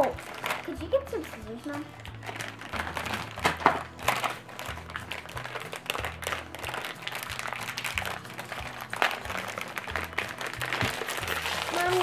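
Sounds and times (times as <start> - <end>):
plastic packets crackling: 0.0 - 12.0.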